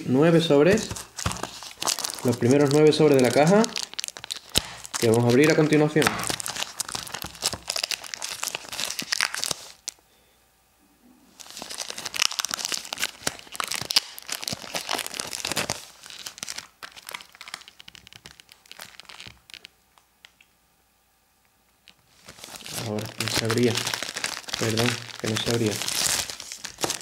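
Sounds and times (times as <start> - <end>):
plastic shrink-wrap crinkling and tearing: 0.6 - 10.0, 11.3 - 19.8, 21.8 - 27.0.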